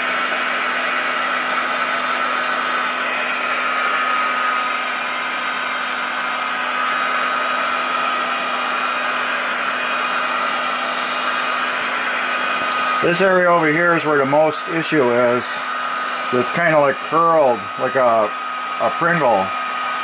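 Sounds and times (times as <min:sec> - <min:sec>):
heat gun blowing air: 0:00.0 - 0:20.0.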